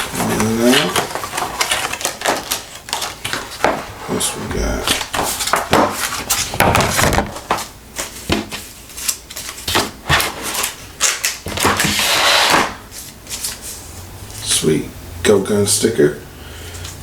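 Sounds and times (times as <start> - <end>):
packaging rustling: 0.0 - 13.8.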